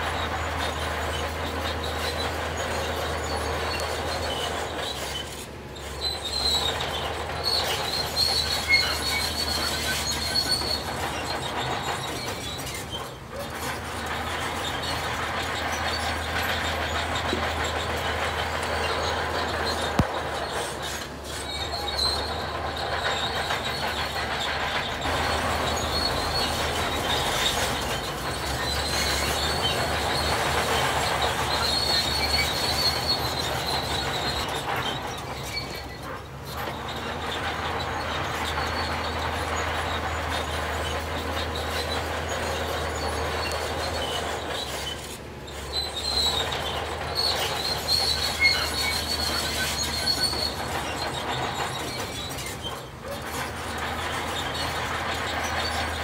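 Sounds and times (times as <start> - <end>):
diesel engine running: 0.0 - 56.0
high squeal: 0.0 - 56.0.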